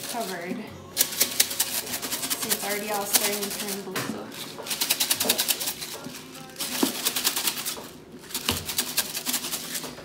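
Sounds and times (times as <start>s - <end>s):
rice rattling in shaken container: 0.0s - 10.0s.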